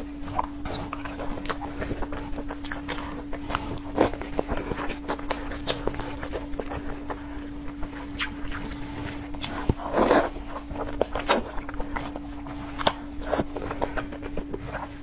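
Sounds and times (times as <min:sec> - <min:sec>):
steady low hum: 0:00.0 - 0:15.0
wet chewing: 0:00.0 - 0:15.0.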